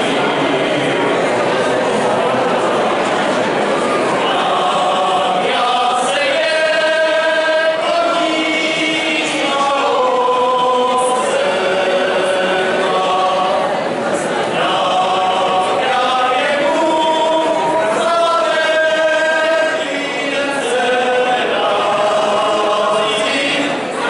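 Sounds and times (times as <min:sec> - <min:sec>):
group singing folk song: 0:00.0 - 0:24.0.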